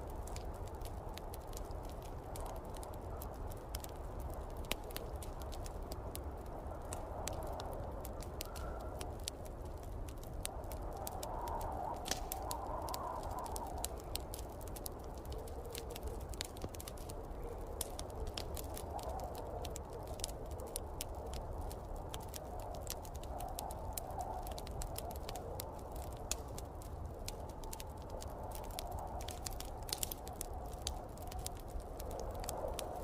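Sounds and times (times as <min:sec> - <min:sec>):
snowstorm wind rumble: 0:00.0 - 0:33.0
wood fire crackling and popping: 0:00.0 - 0:33.0.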